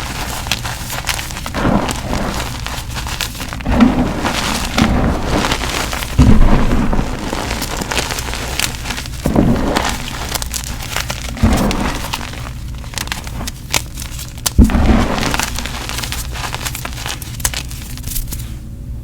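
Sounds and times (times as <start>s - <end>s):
chalk crunching and crackling: 0.0s - 18.6s.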